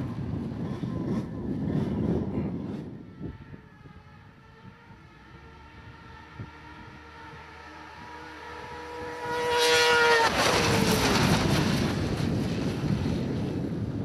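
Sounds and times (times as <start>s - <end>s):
rushing wind from passing sleds: 0.0s - 14.0s
snowmobile engines whining: 0.0s - 14.0s.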